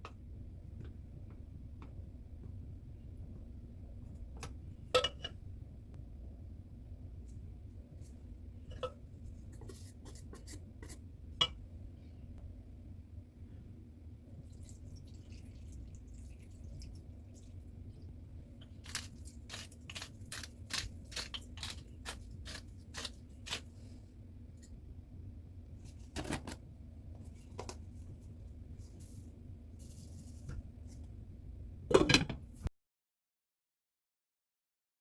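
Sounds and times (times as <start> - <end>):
low steady hum: 0.0 - 32.7.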